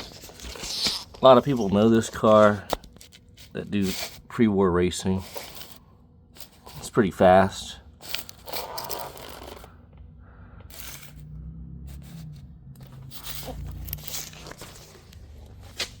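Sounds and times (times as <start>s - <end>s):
rustling and scraping handling: 0.0s - 9.8s, 10.7s - 16.0s.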